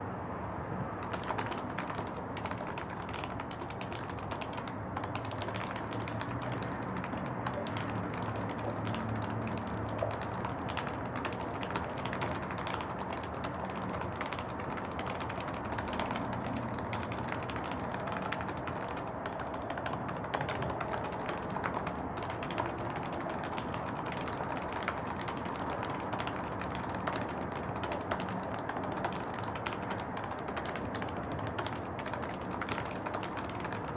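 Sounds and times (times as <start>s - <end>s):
soft keyboard keystrokes: 1.0s - 33.9s.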